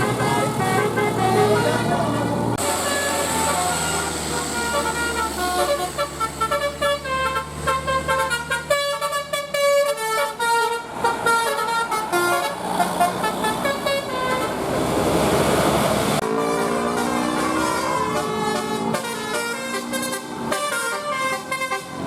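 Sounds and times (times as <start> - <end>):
musical air horn tune: 0.0 - 14.6, 16.2 - 22.0.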